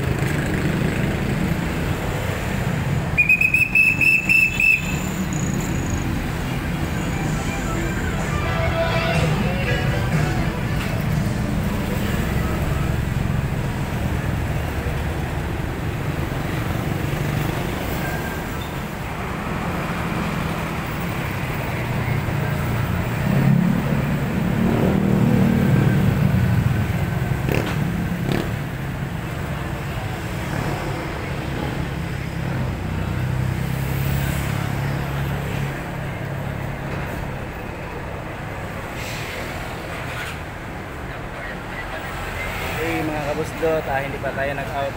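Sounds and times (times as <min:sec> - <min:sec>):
road traffic passing: 0:00.0 - 0:44.9.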